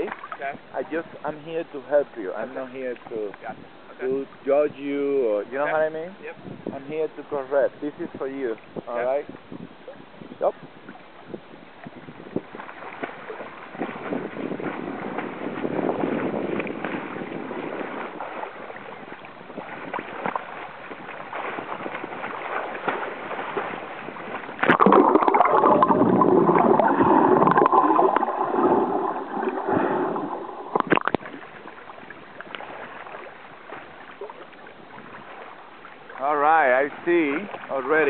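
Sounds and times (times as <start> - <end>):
water sloshing and gurgling: 0.0 - 38.0.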